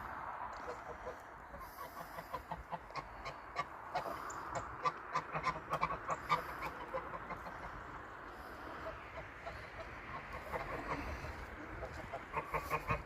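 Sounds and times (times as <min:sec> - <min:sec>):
ducks quacking: 0:00.6 - 0:13.0
geese honking: 0:00.6 - 0:13.0.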